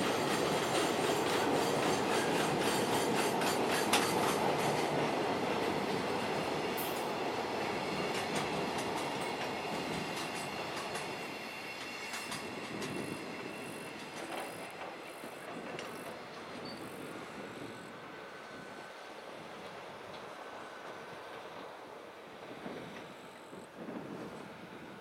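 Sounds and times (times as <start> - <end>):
high tone from train wheels: 0.0 - 25.0
train wagons rumbling past: 0.0 - 25.0.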